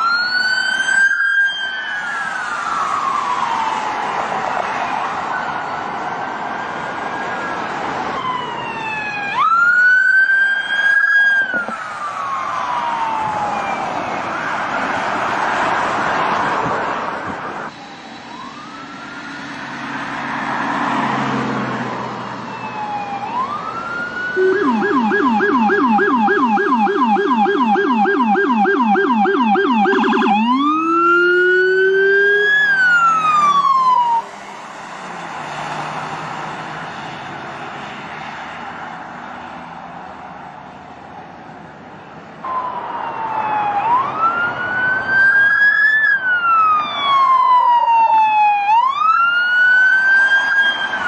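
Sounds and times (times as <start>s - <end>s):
police siren wail and yelp: 0.0s - 51.0s.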